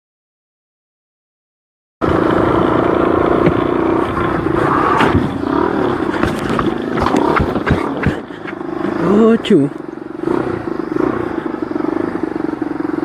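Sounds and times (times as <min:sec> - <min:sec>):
motorcycle engine running: 0:02.0 - 0:13.0
wind and road noise: 0:02.0 - 0:13.0.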